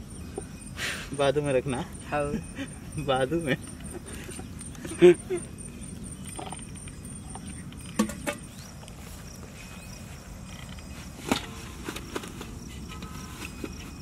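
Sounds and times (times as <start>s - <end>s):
outdoor background: 0.0s - 14.0s.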